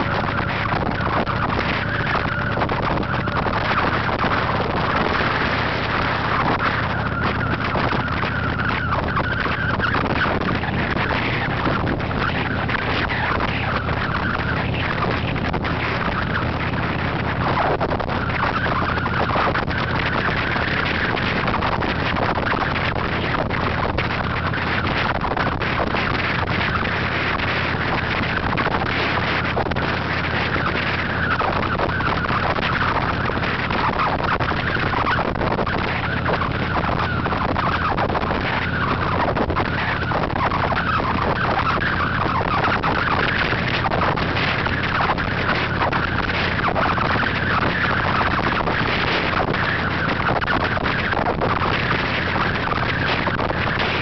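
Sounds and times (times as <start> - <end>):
motorcycle engine hum: 0.0 - 54.0
wind and road noise: 0.0 - 54.0.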